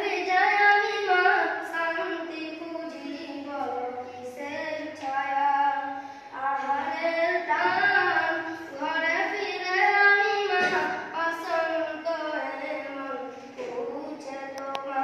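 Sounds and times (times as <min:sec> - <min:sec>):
child singing: 0:00.0 - 0:15.0.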